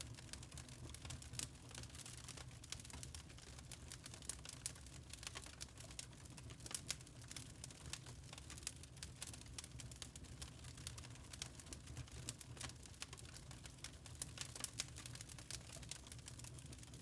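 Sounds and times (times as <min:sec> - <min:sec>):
burning charcoal crackling: 0:00.0 - 0:17.0.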